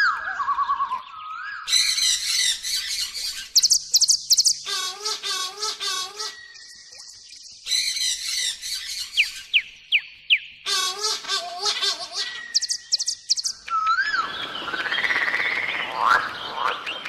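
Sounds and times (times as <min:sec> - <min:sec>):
birds squawking and chirping: 0:00.0 - 0:17.0.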